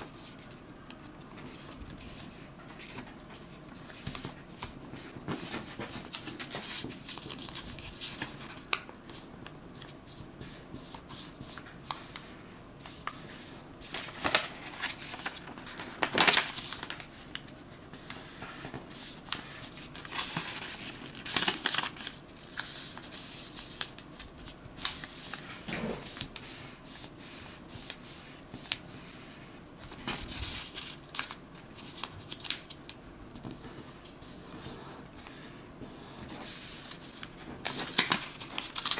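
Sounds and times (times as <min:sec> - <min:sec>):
paper rustling and crinkling: 0:00.0 - 0:27.2, 0:27.8 - 0:38.9.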